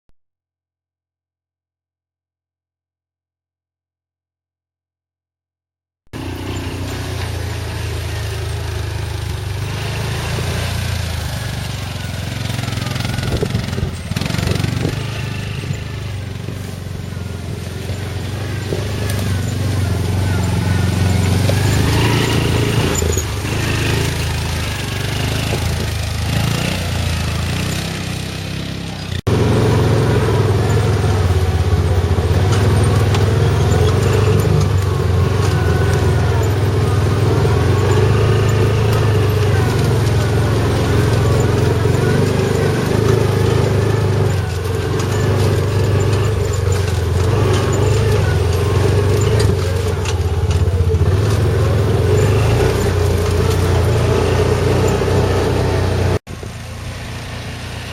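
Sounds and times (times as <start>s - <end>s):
vehicle engine running: 6.1s - 57.9s.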